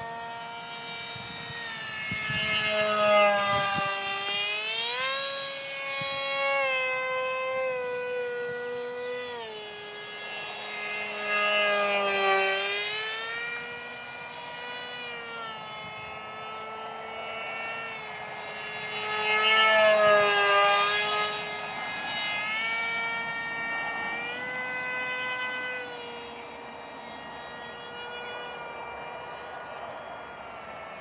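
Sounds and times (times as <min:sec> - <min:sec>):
electric motor and propeller whine: 0:00.0 - 0:31.0.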